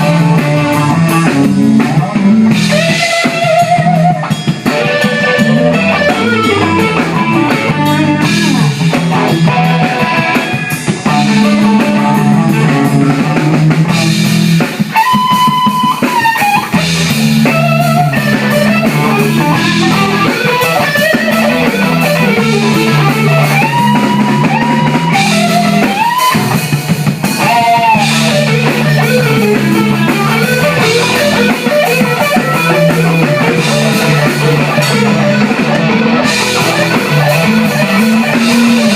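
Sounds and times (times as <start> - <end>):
bass line: 0.0 - 38.9
drum kit with cymbals: 0.0 - 38.9
electric guitar lead: 0.0 - 38.9.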